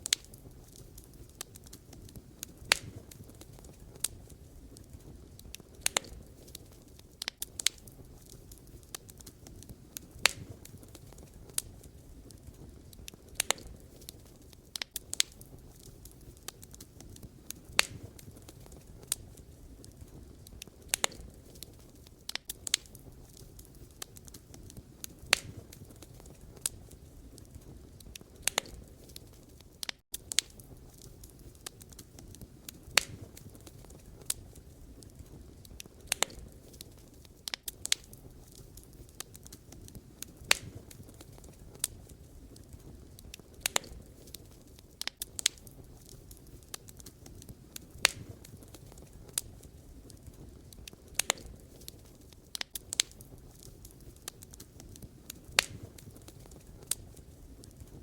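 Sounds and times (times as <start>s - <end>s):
burning logs crackling and popping: 0.0s - 58.0s
flames rumbling: 0.0s - 58.0s.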